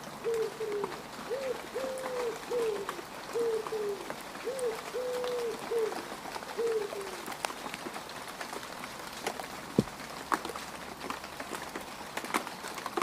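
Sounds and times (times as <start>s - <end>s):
rain falling on mud: 0.0s - 13.0s.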